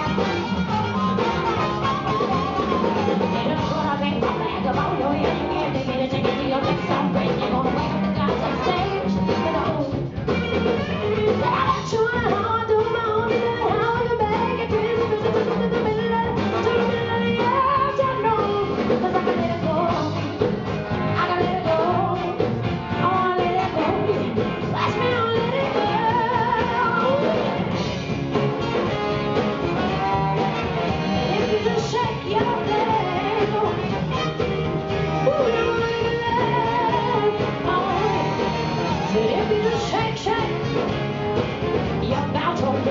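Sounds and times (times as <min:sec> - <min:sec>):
harmonica: 0:00.0 - 0:05.6, 0:06.6 - 0:11.7, 0:15.0 - 0:42.1
woman singing: 0:00.0 - 0:27.8, 0:29.6 - 0:41.0, 0:41.9 - 0:42.9
drum kit: 0:00.0 - 0:42.9
electric bass: 0:00.0 - 0:42.9.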